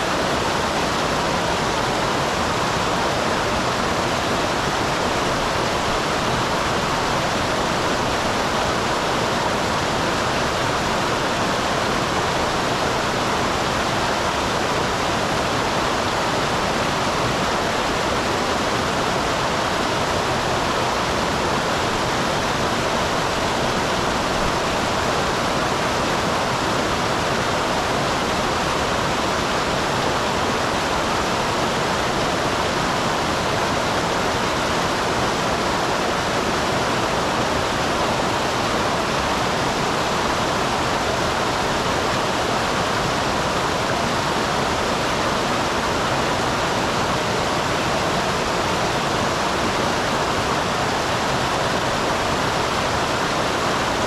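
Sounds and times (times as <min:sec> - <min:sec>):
small waterfall pouring and splashing: 0:00.0 - 0:54.0.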